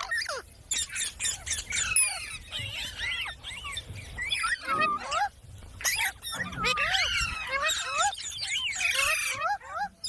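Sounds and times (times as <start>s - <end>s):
parrot whistling and squealing: 0.0s - 9.9s.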